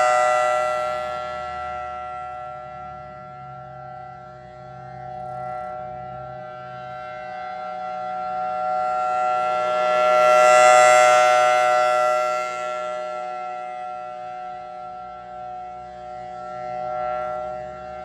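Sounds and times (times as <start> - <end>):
two-note warning siren wail: 0.0 - 18.0.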